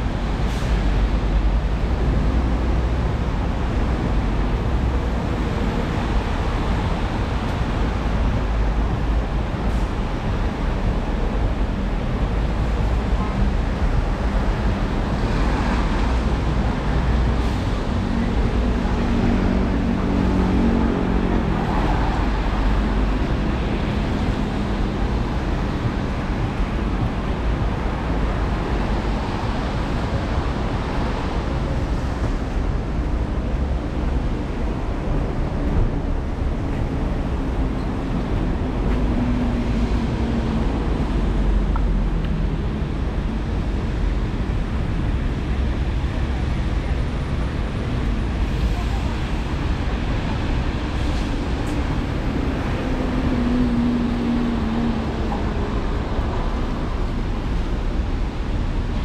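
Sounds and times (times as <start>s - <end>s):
engine hum: 0.0s - 59.0s
vehicles passing on wet roads: 0.0s - 59.0s.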